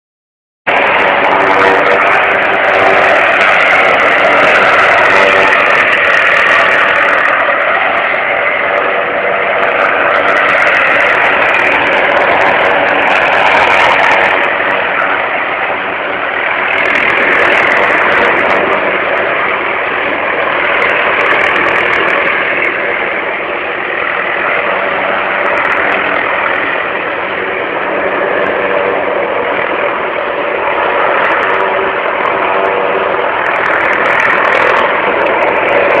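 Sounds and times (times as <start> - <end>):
helicopter engine and rotor drone: 0.7 - 36.0.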